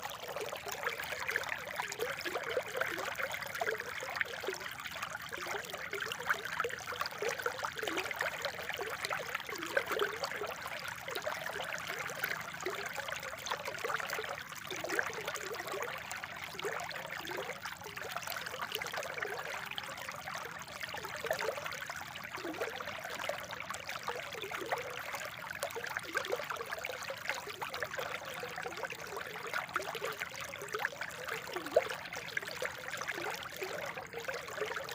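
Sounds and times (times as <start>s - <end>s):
water trickling over stones: 0.0s - 34.9s.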